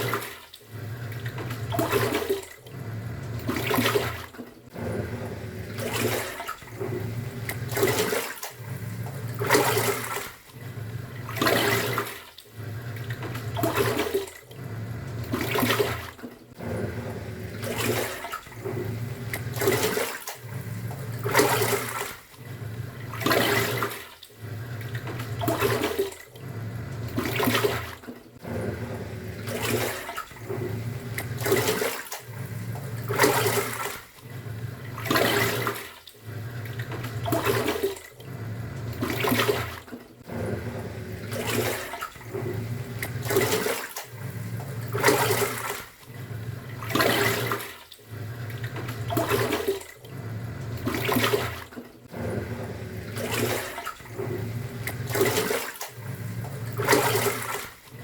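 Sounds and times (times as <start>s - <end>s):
washing machine motor hum: 0.0s - 58.0s
water swishing: 0.0s - 58.0s.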